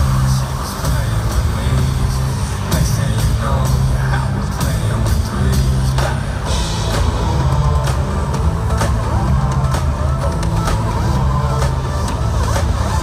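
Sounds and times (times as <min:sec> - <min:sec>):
live band playing pop song: 0:00.0 - 0:13.0.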